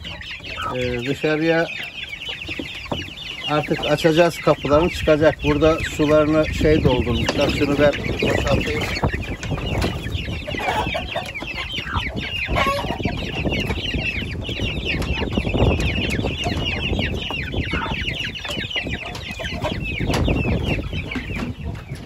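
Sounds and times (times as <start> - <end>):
hen calling: 0.0 - 21.6
chicks peeping: 0.0 - 22.0.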